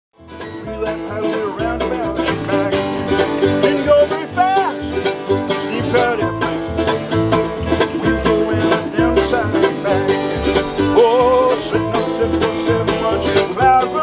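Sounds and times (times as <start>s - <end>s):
bluegrass string band playing: 0.2s - 14.0s
fast banjo picking: 0.2s - 14.0s.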